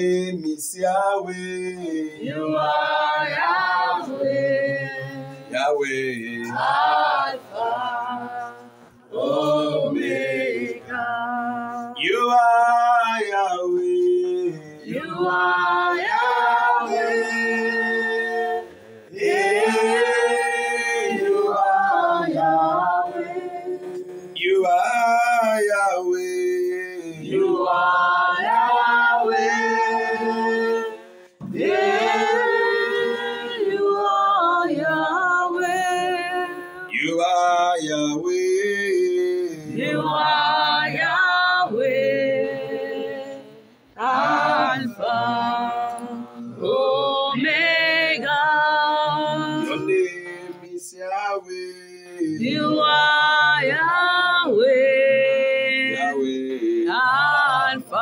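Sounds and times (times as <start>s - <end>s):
group singing unaccompanied: 0.0s - 51.5s, 52.2s - 58.0s.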